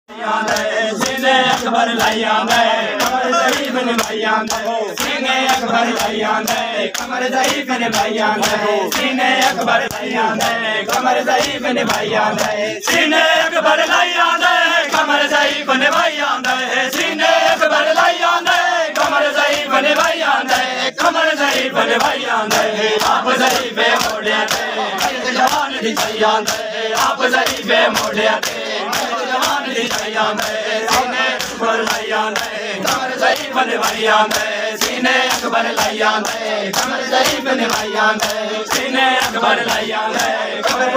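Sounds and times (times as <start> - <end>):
men chanting together: 0.1 - 40.9
hands slapping chests: 0.4 - 40.9.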